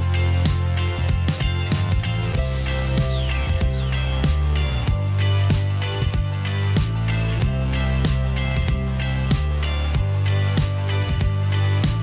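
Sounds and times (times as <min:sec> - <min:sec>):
deep bass notes: 0:00.0 - 0:12.0
held chords: 0:00.1 - 0:12.0.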